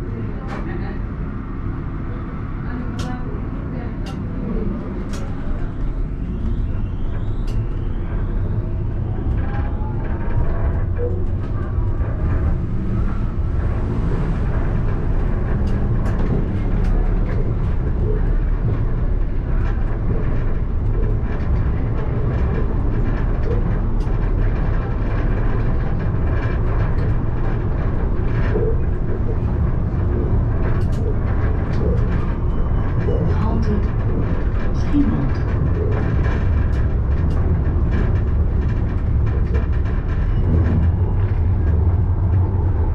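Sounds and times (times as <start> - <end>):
tram wheels rumbling: 0.0 - 42.9.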